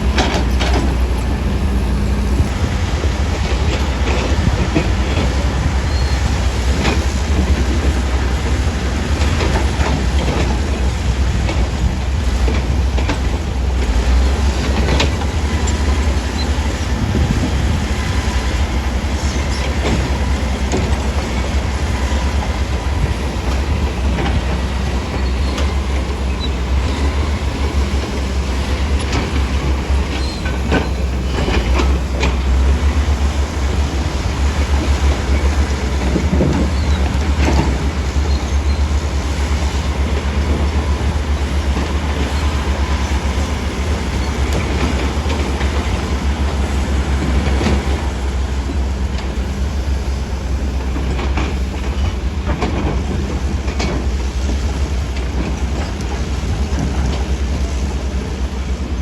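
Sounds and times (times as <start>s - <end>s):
deep diesel engine rumble: 0.0s - 59.0s
steel tracks clanking: 0.0s - 59.0s.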